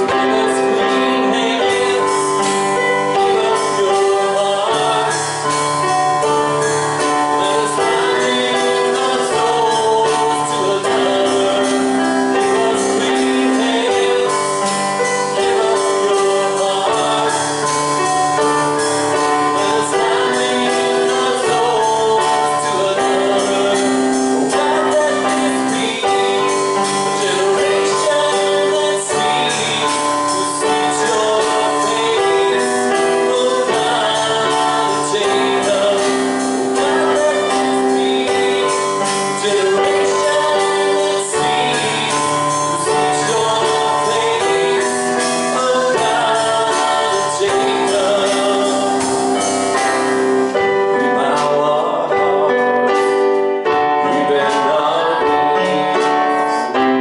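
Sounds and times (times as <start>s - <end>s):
held chords: 0.0s - 57.0s
people singing: 0.0s - 57.0s.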